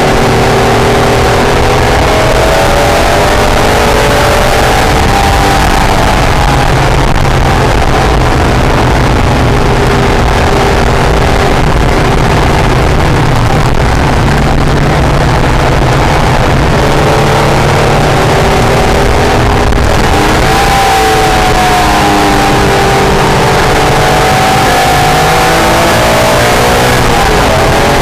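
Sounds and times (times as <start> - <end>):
car engine pulling hard: 0.0 - 28.0
wind and road noise: 0.0 - 28.0.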